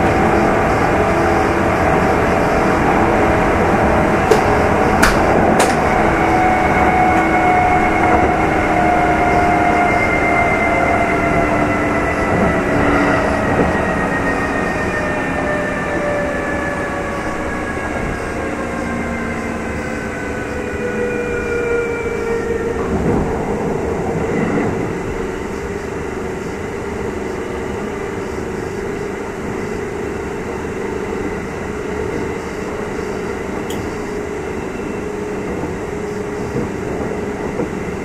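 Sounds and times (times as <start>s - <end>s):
electric train motor whine: 0.0s - 38.0s
wheel-on-rail noise: 0.0s - 38.0s.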